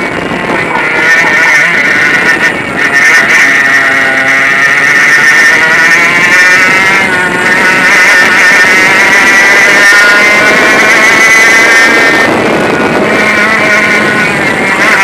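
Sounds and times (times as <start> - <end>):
kart engine at high revs: 0.0 - 15.0.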